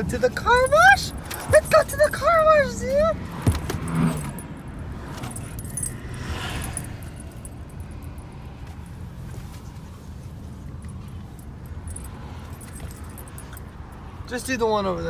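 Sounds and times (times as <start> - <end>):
car cabin rumble: 0.0 - 15.0
light metallic jingling: 0.0 - 15.0.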